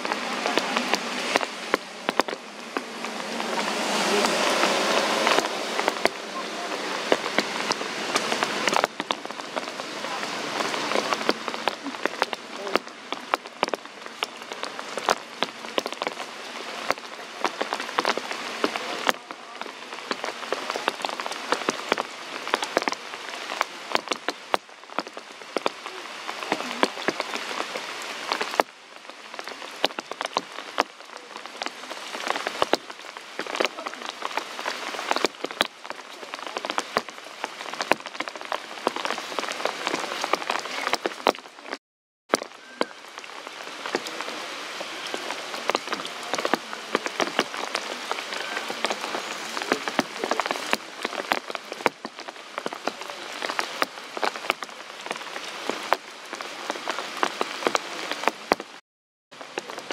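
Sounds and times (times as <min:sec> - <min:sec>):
rain drops hitting leaves: 0:00.0 - 0:59.9.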